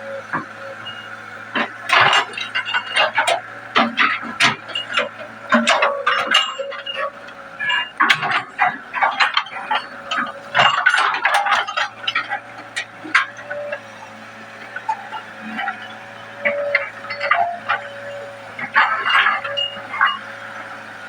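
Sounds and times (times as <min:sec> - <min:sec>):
excavator clanks and knocks: 0:00.1 - 0:21.0.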